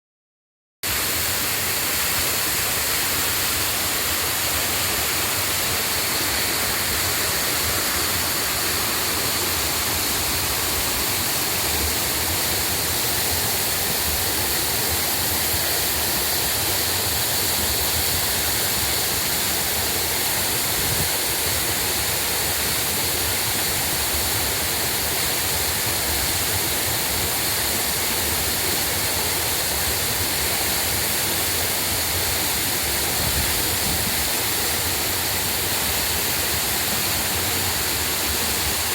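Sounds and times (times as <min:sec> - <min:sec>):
waterfall rushing: 0:00.8 - 0:38.9.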